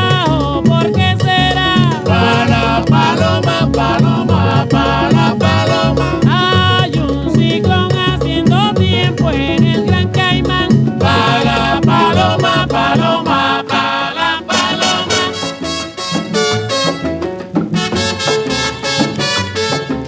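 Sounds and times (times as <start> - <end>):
salsa music: 0.0 - 20.0.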